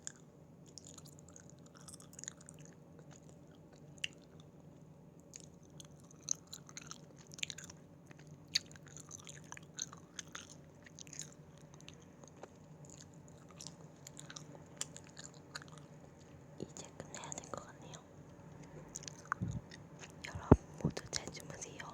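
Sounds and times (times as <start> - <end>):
chewing gummy candies: 0.0 - 21.9.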